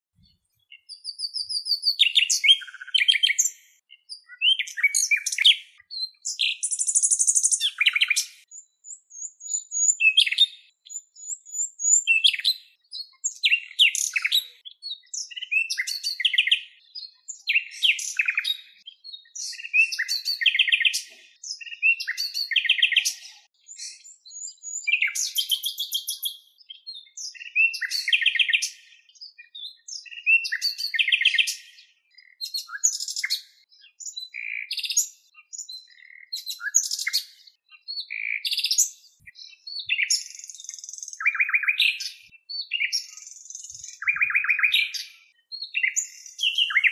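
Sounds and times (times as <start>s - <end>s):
birds chirping and trilling: 0.2s - 46.9s.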